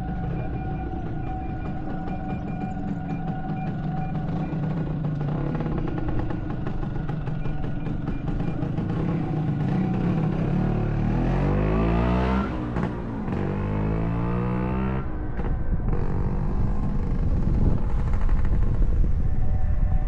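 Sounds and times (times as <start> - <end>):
vehicle engine revving: 0.0 - 18.1.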